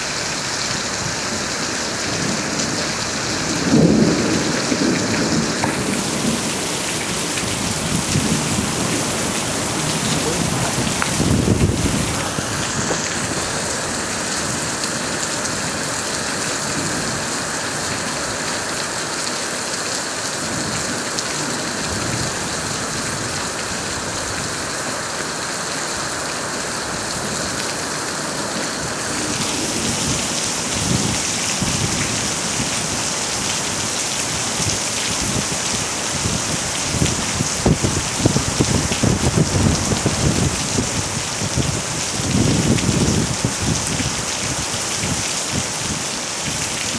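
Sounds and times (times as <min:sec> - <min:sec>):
heavy rain falling: 0:00.0 - 0:46.9
heavy raindrops pattering: 0:00.1 - 0:46.9.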